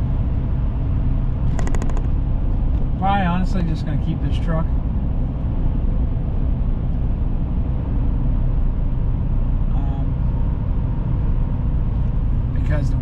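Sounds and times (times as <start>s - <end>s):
road and engine rumble in truck cab: 0.0s - 13.0s.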